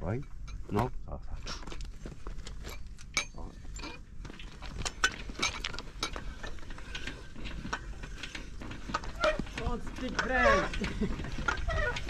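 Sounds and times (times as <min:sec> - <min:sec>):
windlass metallic clinks: 0:01.6 - 0:12.0.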